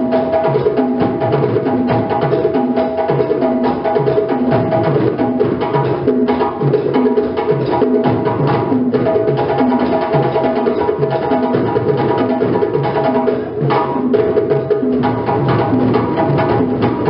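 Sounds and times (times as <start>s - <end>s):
djembe drums playing: 0.0s - 17.0s.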